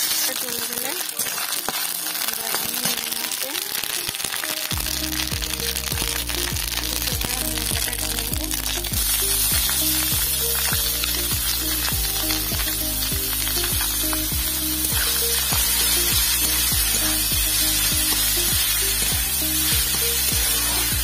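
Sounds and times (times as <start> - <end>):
background music with steady beat: 0.0 - 21.0
food sizzling in a wok: 0.0 - 21.0.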